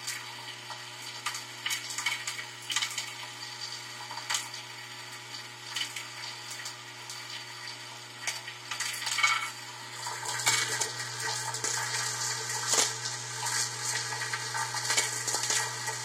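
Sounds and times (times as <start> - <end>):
bowl feeder humming: 0.0 - 16.0.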